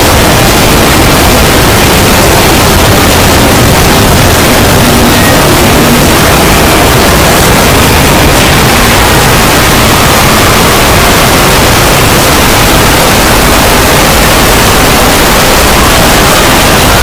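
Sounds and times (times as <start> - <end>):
distorted static noise: 0.0 - 17.0.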